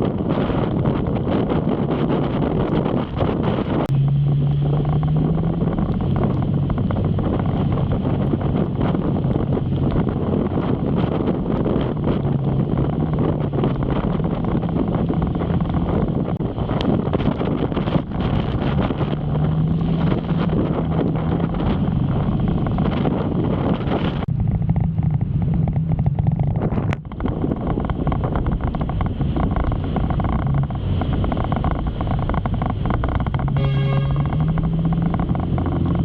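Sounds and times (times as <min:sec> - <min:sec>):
motorcycle engine: 0:00.0 - 0:36.0
wind noise on microphone: 0:00.0 - 0:36.0.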